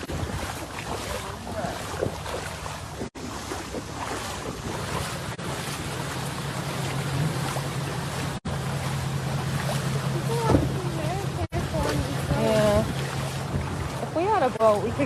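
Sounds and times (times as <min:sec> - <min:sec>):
rough water rushing: 0:00.0 - 0:15.0
wind buffeting microphone: 0:00.0 - 0:15.0.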